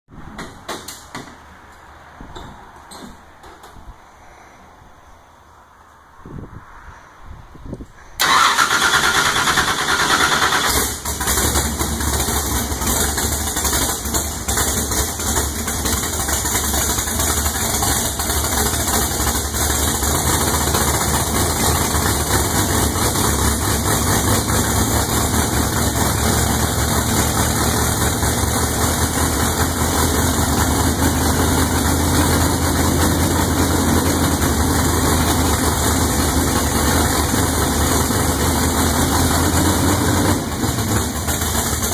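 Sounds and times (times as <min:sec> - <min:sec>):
engine starting and idling: 0:08.2 - 0:41.9.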